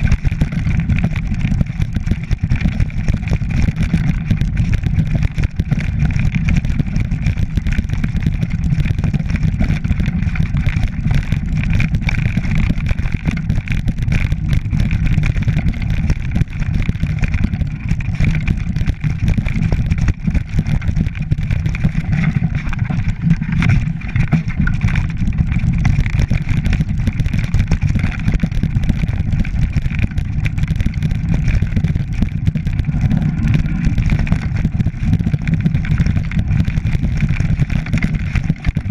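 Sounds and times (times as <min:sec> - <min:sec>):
mountain bike on rocky track: 0:00.0 - 0:38.9.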